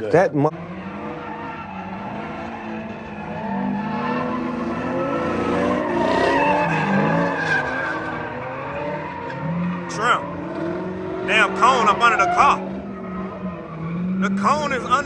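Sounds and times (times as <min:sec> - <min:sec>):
car engine revving: 0:00.5 - 0:15.0
tyres squealing: 0:00.8 - 0:15.0.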